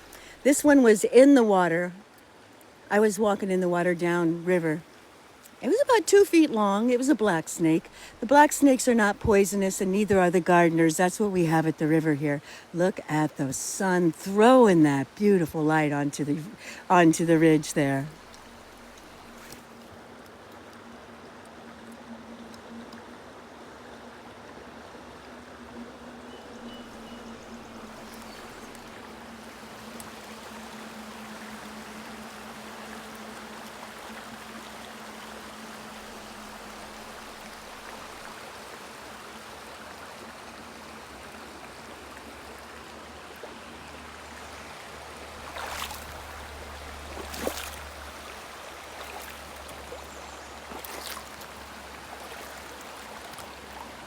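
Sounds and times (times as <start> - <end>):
river running over stones: 0.0 - 54.0.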